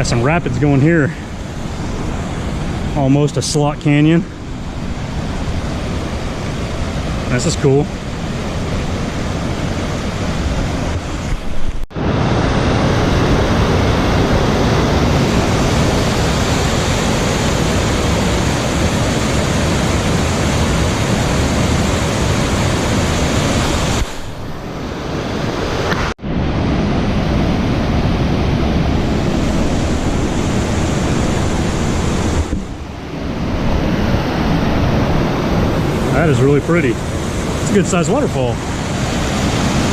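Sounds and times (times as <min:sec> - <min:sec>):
creek rushing over waterfall: 0:00.0 - 0:39.9.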